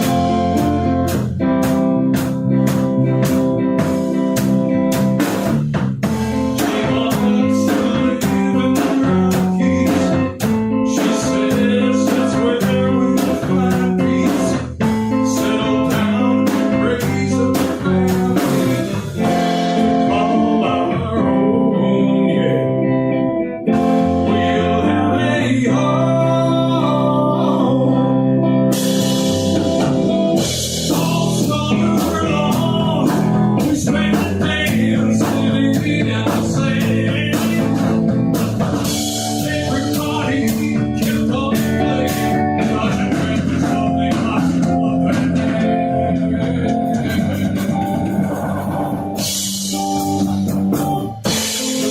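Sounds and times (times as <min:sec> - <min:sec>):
drum kit and cymbals: 0:00.0 - 0:20.4, 0:23.7 - 0:24.3, 0:28.7 - 0:51.9
rock band playing: 0:00.0 - 0:51.9.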